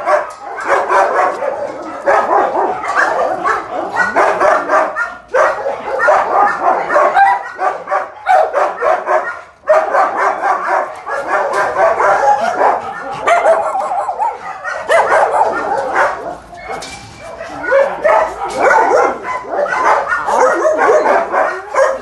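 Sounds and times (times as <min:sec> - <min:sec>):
dogs barking and yapping: 0:00.0 - 0:22.0.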